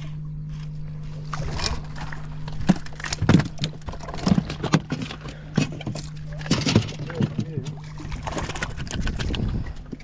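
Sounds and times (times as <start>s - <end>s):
steady low hum: 0.0s - 10.0s
water slapping against boat hull: 1.3s - 10.0s.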